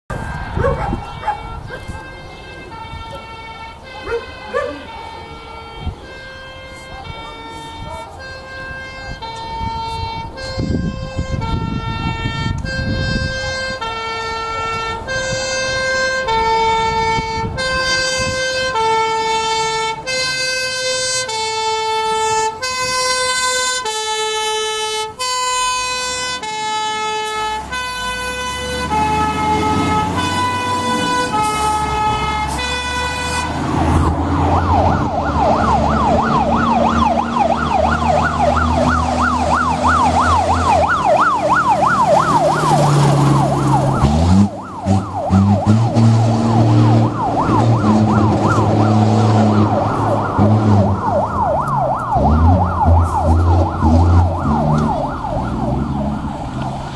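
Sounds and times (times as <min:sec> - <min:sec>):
electronic yelp siren: 0:00.1 - 0:56.9
fire engine engine: 0:00.1 - 0:56.9
two-tone hi-lo siren: 0:00.1 - 0:56.9.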